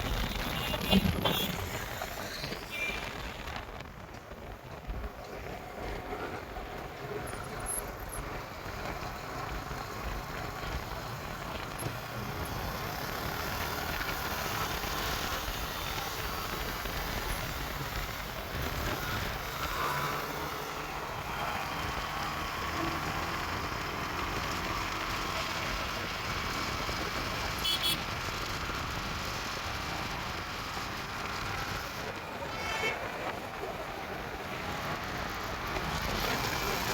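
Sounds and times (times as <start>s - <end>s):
wind and road noise: 0.0s - 36.9s.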